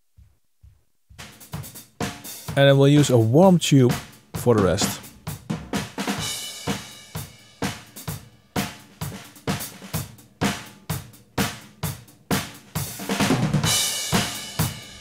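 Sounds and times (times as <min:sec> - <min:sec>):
drum kit playing a beat: 0:01.1 - 0:15.0.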